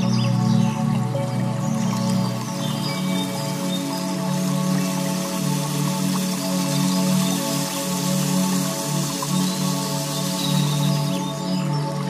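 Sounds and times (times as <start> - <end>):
soft sustained chords music: 0.0 - 12.0.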